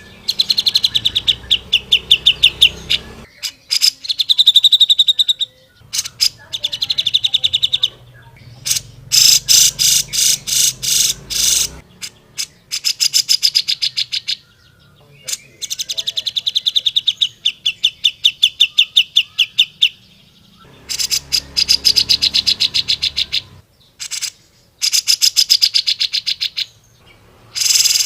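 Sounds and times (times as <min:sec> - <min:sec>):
bulbul trilling calls: 0:00.0 - 0:28.0.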